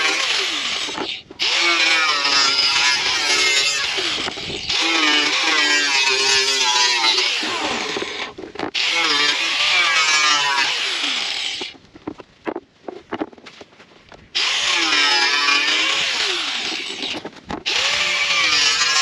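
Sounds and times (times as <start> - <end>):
power tool cutting: 0.0 - 11.8, 14.4 - 19.0.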